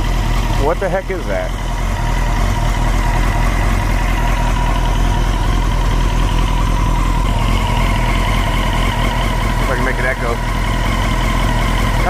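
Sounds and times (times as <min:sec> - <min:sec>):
engine knocking noise: 0:00.0 - 0:12.0
motorcycle engine idling: 0:00.0 - 0:12.0.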